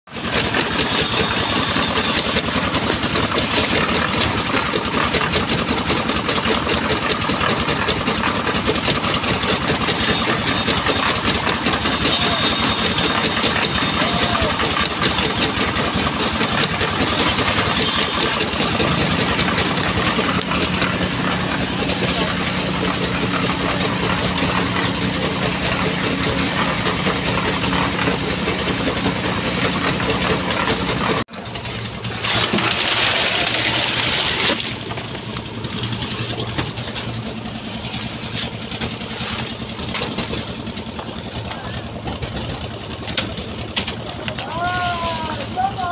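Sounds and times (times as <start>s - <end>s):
concrete mixer clattering: 0.1s - 45.9s.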